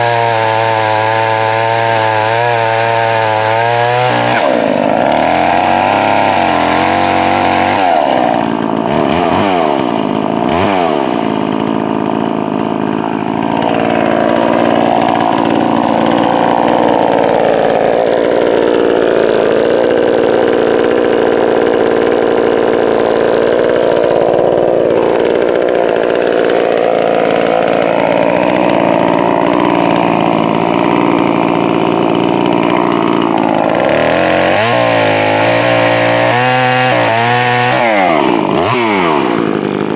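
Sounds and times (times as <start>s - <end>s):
chainsaw cutting under load: 0.0s - 39.9s
chainsaw revving: 0.0s - 39.9s.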